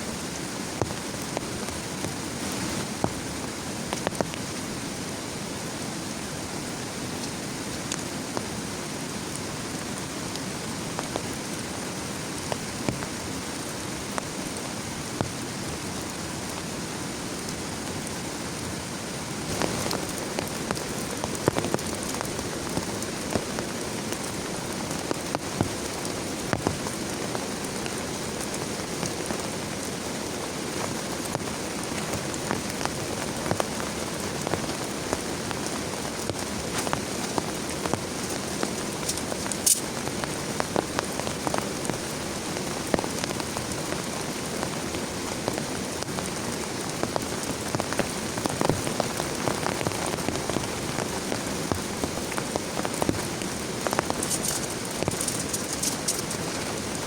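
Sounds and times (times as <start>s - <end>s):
heavy rain falling: 0.0s - 57.0s
raindrops clicking on a surface: 0.2s - 5.0s, 6.0s - 18.8s, 19.4s - 57.0s.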